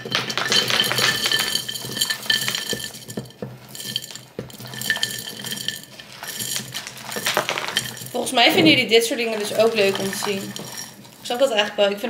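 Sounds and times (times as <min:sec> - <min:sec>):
jar clinking: 0:00.0 - 0:11.6
nuts rattling in a jar: 0:00.0 - 0:11.8.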